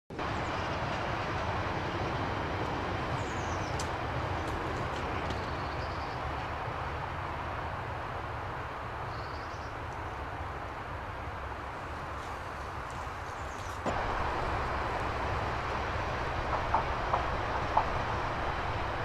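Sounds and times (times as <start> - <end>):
underground train rumbling: 0.1 - 19.0.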